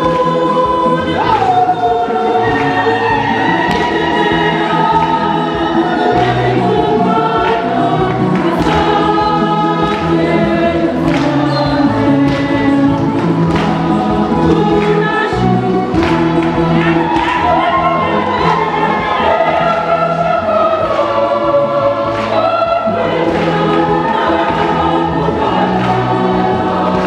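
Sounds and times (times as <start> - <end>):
church choir singing a hymn: 0.0 - 27.0.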